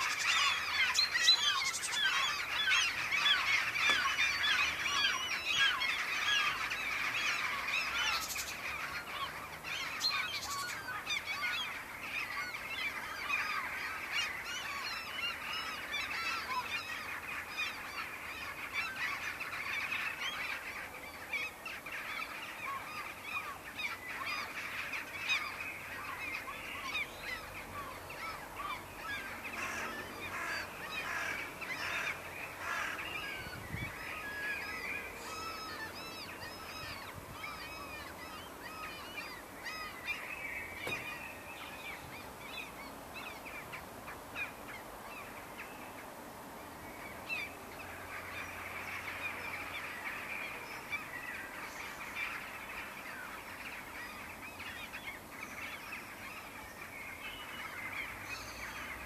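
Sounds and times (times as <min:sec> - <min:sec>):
flock of birds calling: 0:00.0 - 0:59.0.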